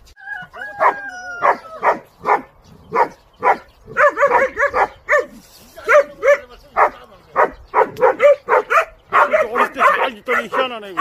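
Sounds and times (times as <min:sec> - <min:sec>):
puppy yipping barks: 0:00.8 - 0:11.0.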